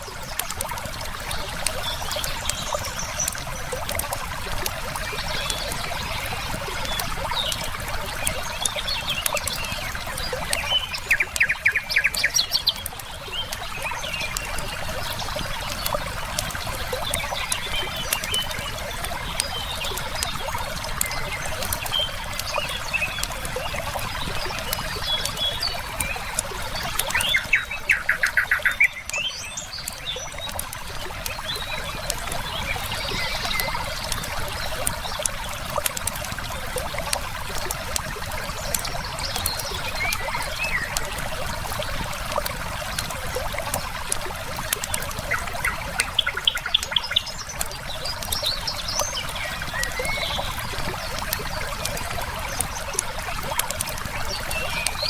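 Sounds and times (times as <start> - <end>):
birds chirping: 0.0 - 55.0
fire crackling: 0.0 - 55.0
river water flowing: 0.0 - 55.0.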